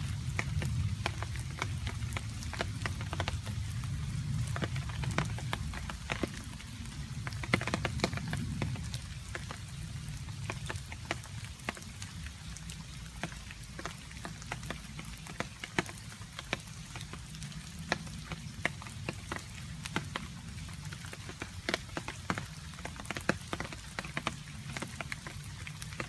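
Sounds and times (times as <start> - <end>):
rain rumbling: 0.0 - 26.0
water drops dripping: 0.2 - 26.0.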